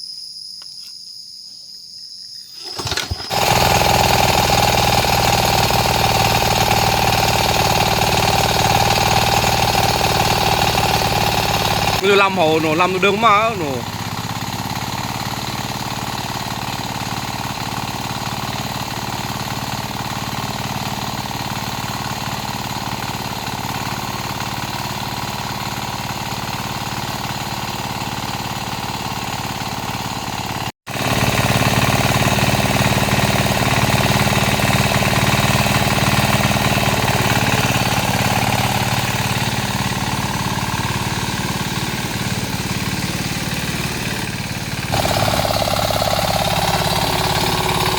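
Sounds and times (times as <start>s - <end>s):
tractor engine running: 2.6s - 47.9s.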